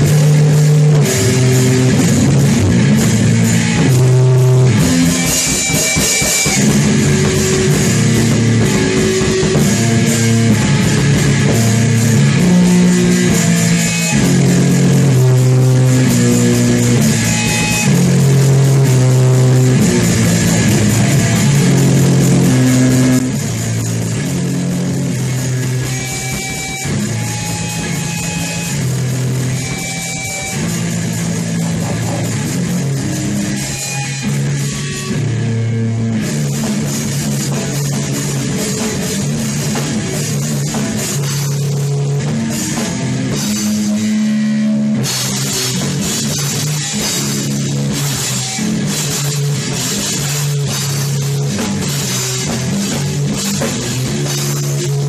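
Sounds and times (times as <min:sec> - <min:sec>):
distorted guitar riff: 0:00.0 - 0:55.0
drums: 0:00.0 - 0:55.0.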